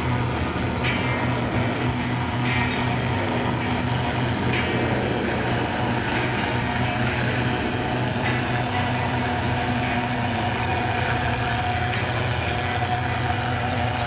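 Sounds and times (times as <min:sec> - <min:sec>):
fogging machine engine drone: 0:00.0 - 0:14.0.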